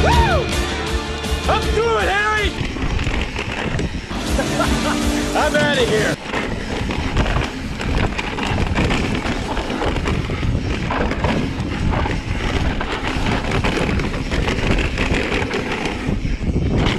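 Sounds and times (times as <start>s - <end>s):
bike tyres knocking and rattling: 1.5s - 16.9s
wind buffeting microphone: 1.5s - 16.9s.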